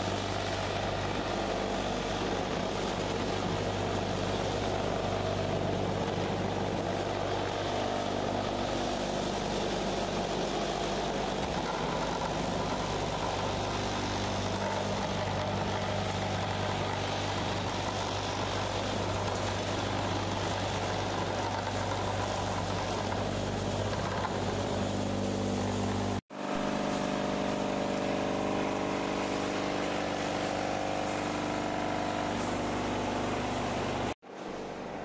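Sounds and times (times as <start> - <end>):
vibrating table mechanical hum: 0.0 - 35.0.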